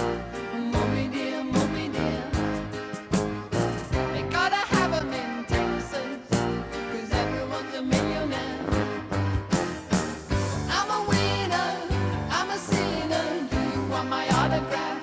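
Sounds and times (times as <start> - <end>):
person singing: 0.0 - 3.0, 3.9 - 9.8, 10.5 - 15.0
bass: 0.0 - 14.8
drum beat: 0.8 - 4.2, 4.8 - 14.9.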